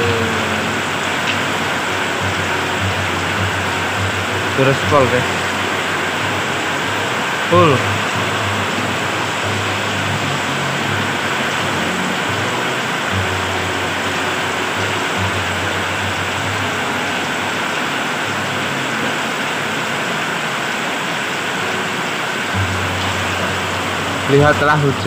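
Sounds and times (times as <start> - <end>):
heavy rain pouring: 0.0 - 25.0
motorcycle engine hum: 0.0 - 25.0.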